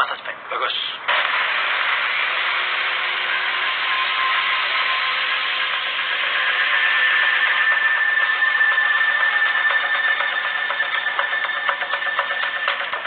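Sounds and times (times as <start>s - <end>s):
mechanical whirring: 1.1s - 13.0s.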